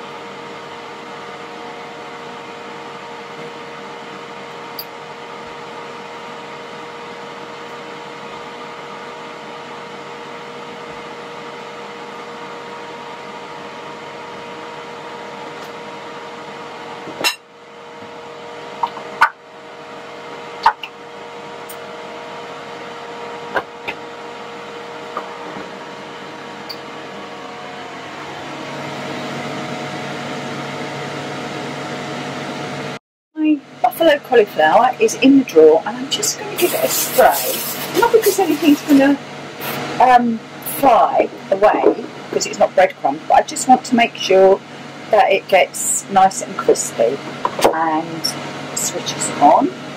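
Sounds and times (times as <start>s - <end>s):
kitchen appliance humming: 0.0s - 49.9s.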